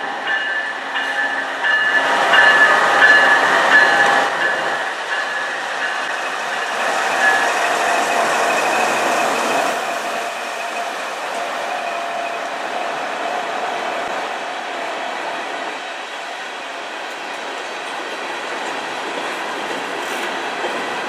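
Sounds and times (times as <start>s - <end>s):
diesel locomotive engines whining: 0.0s - 21.0s
steel wheels rolling on rail: 0.0s - 21.0s.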